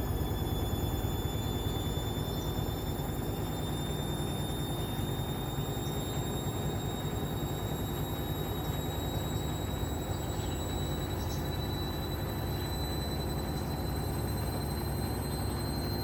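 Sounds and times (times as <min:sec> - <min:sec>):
high motor whine: 0:00.0 - 0:16.0.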